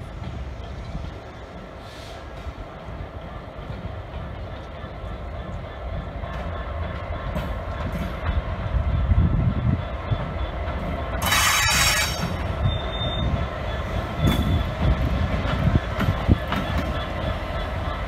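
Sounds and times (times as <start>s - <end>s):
diesel locomotive engine rumble: 0.0s - 18.0s
train wheels on rails: 0.0s - 18.0s.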